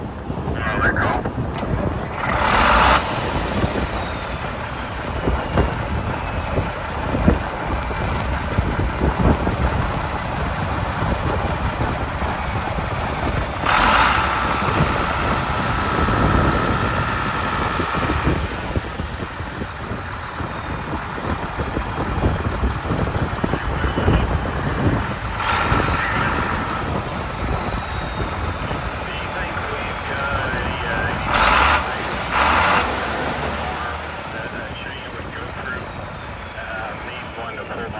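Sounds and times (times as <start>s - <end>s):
diesel tractor engine idling: 0.0s - 37.9s
higher-pitched hum: 1.2s - 37.9s.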